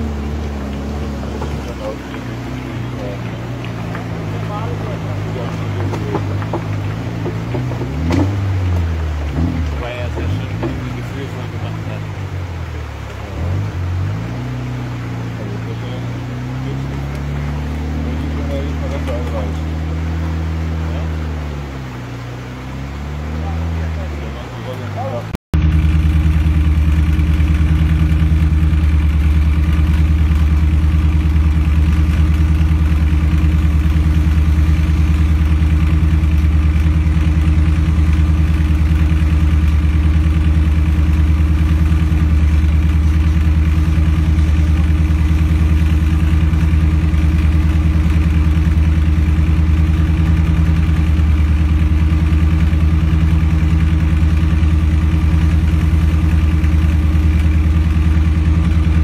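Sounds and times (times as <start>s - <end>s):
engine humming steadily: 0.0s - 59.0s.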